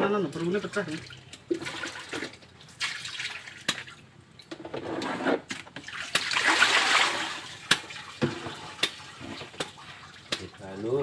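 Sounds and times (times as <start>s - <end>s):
water pouring and splashing: 0.1s - 4.5s, 5.5s - 11.0s.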